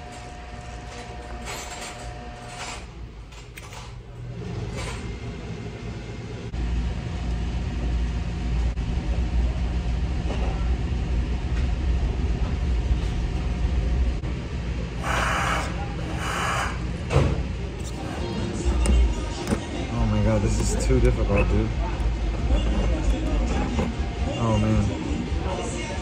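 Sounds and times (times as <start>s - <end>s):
low mechanical rumble of motor: 0.0s - 26.0s.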